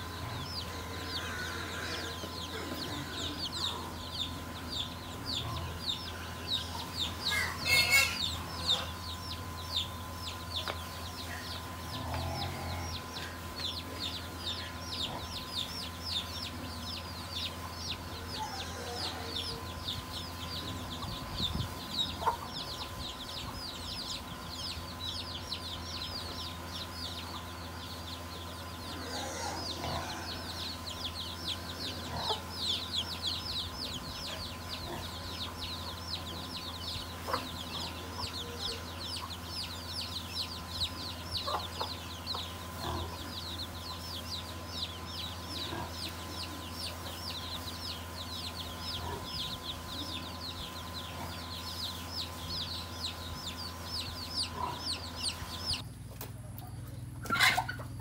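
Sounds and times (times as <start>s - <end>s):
chicks peeping: 0.0s - 58.0s
hen clucking: 0.0s - 58.0s
steady hum: 0.0s - 58.0s.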